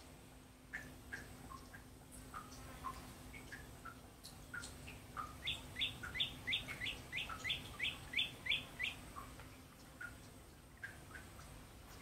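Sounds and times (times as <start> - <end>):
soft low bird chirps: 0.8 - 12.0.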